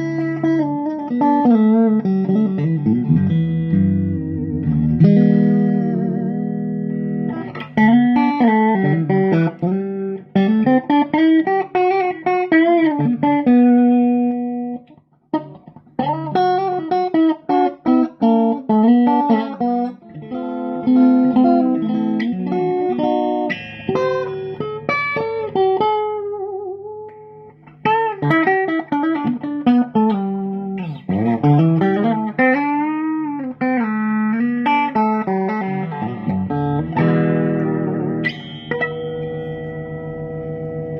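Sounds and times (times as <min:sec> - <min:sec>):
electric guitar lead melody: 0:00.0 - 0:40.9.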